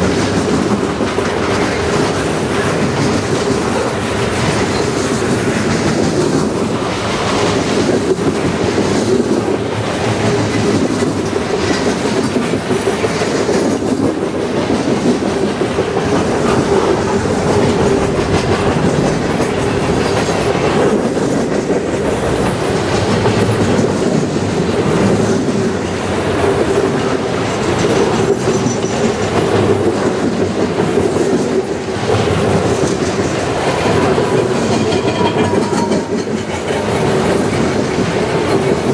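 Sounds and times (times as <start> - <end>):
train wheels clicking over rail: 0.0 - 38.9.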